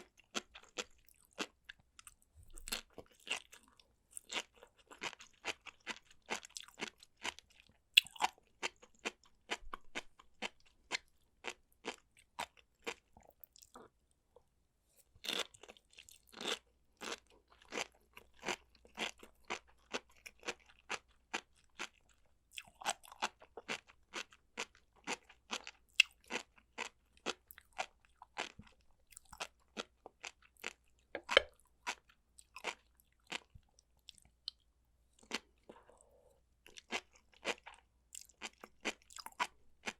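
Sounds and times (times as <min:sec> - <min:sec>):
chewing food crunching: 0:00.0 - 0:14.4, 0:15.2 - 0:39.9.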